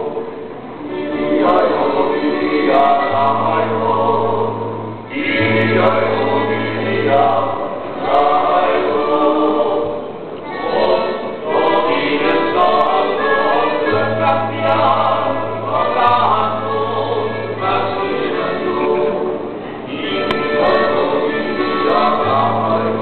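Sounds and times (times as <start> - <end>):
men's choir singing: 0.0 - 23.0.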